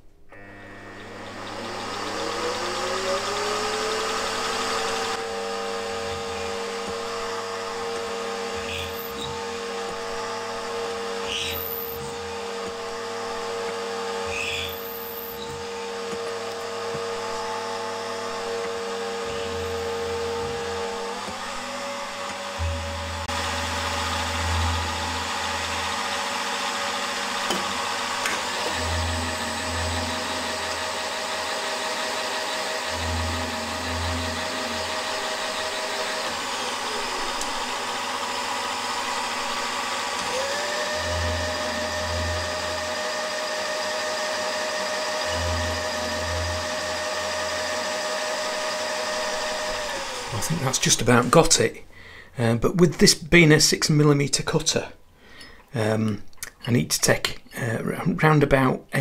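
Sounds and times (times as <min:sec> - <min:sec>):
milling machine motor whine: 0:00.3 - 0:51.6.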